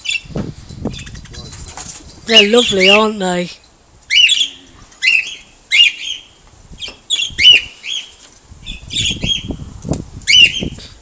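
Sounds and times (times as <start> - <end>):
birds making harsh chirps: 0.0 - 11.0.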